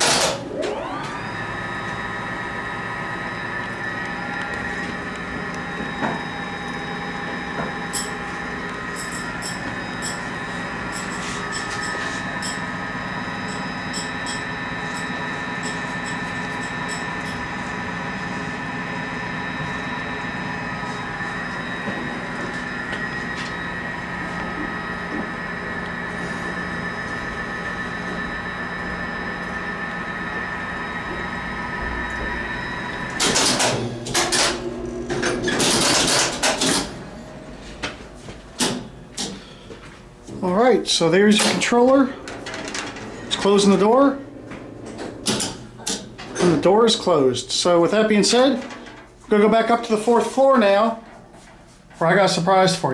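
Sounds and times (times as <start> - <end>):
elevator machinery hum with whine: 0.0 - 52.0.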